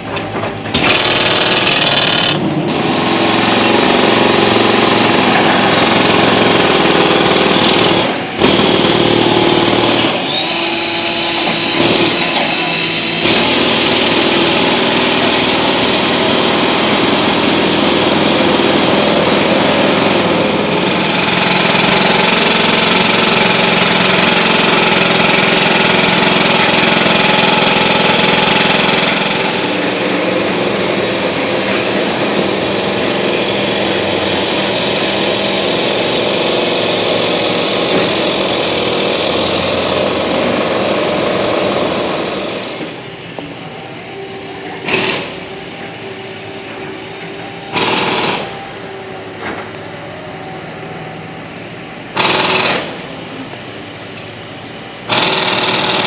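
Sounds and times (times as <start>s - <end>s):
diesel construction machinery: 0.0s - 56.0s.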